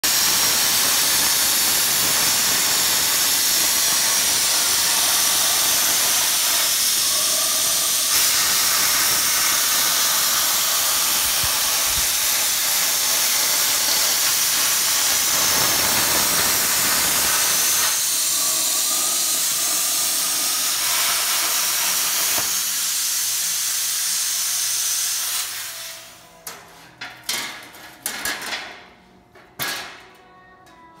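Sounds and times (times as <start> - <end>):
plasma cutter hissing: 0.0 - 26.2.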